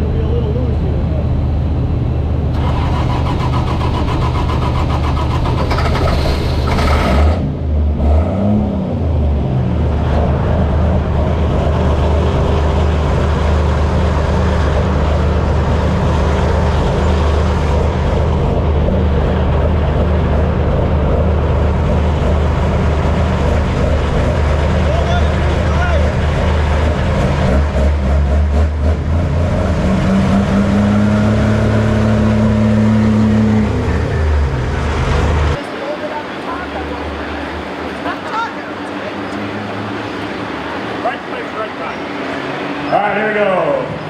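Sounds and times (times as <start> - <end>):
tractor engine running hard: 0.0 - 8.2, 8.8 - 44.0
high engine whine: 0.0 - 44.0.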